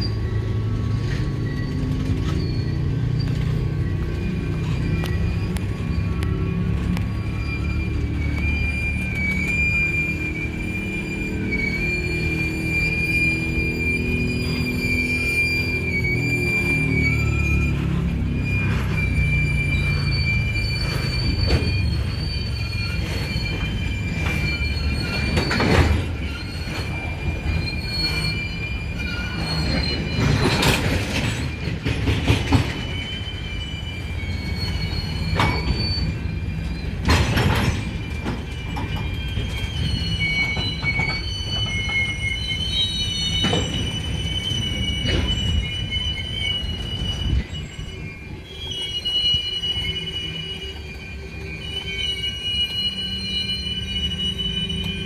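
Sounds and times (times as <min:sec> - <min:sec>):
train low rumble: 0:00.0 - 0:55.0
train wheels squealing: 0:00.0 - 0:55.0.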